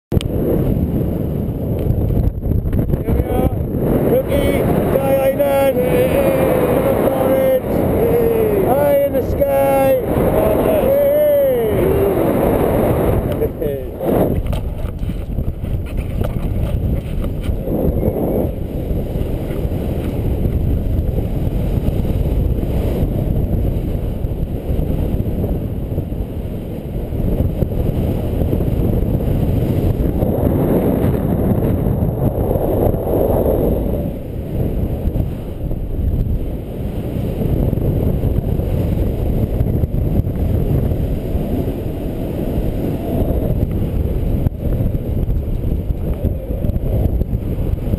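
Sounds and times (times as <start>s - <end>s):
wind buffeting microphone: 0.1s - 47.9s.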